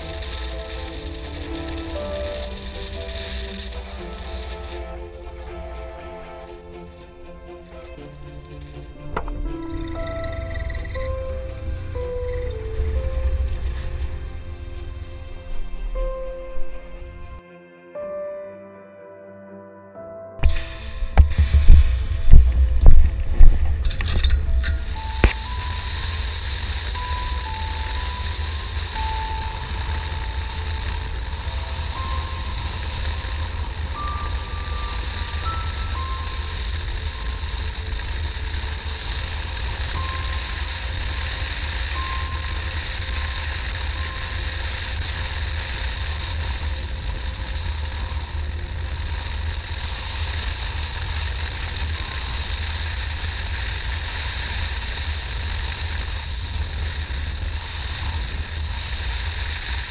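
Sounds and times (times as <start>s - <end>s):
wind rush: 0.0s - 17.4s, 20.4s - 53.3s.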